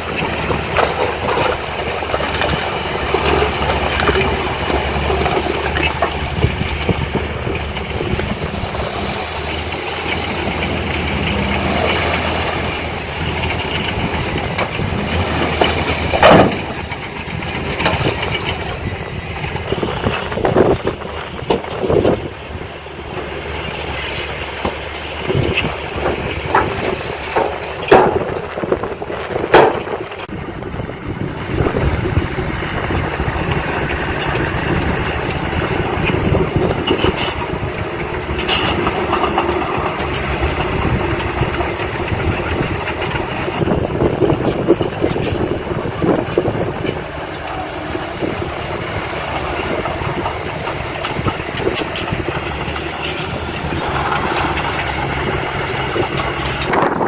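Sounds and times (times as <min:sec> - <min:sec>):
heavy machinery diesel engine: 0:00.0 - 0:57.0
metal clanks: 0:00.2 - 0:28.7, 0:31.7 - 0:57.0.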